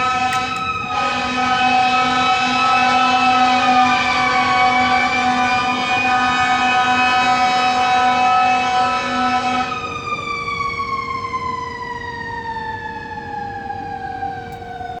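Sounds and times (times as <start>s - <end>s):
fire truck air horn blasting: 0.0s - 15.0s
siren winding down: 0.0s - 15.0s.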